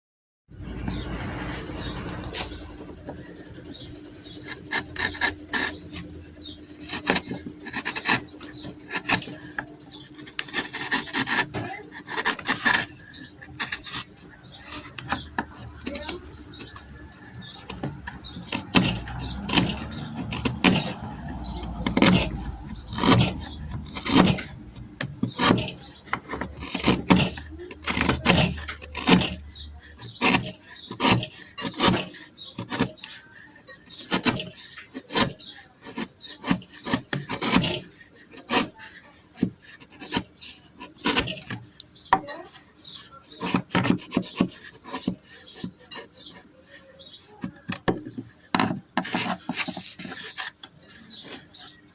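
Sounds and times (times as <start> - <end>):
hand tool rasping on wood: 0.9 - 51.9.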